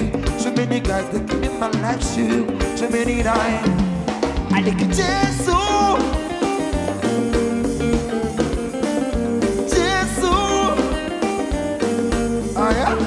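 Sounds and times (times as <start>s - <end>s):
live band playing pop: 0.0s - 13.0s
person singing: 0.0s - 13.0s.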